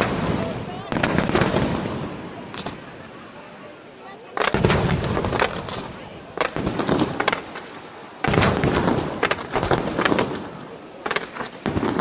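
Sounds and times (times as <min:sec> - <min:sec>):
fireworks bursting with crackling: 0:00.0 - 0:12.0.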